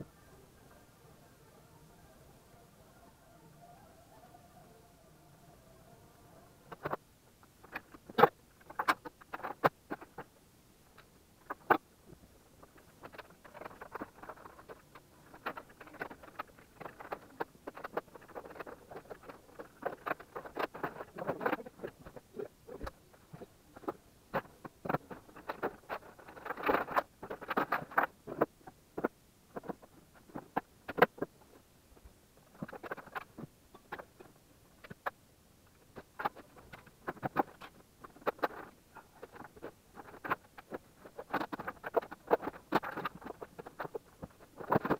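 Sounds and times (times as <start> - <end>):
equipment and cables handling noise: 6.7 - 44.9.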